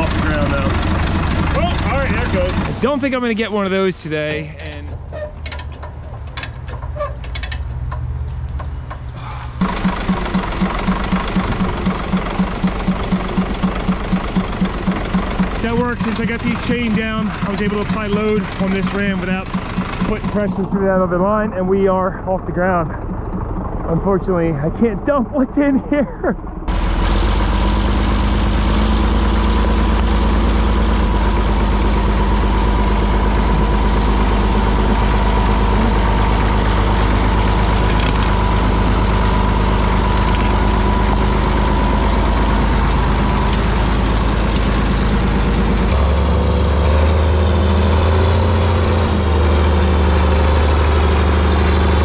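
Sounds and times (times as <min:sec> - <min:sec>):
diesel engine running loudly: 0:00.0 - 0:04.9, 0:09.2 - 0:52.0.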